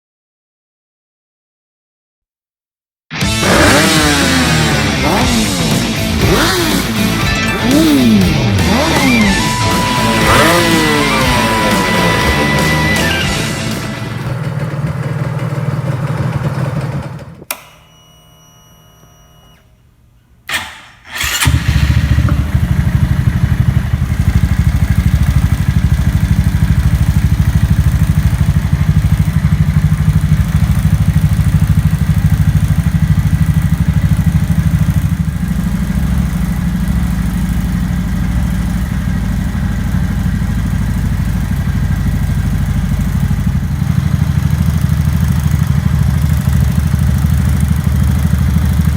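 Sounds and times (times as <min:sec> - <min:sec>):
motorcycle engine starting and idling: 0:03.2 - 0:48.9.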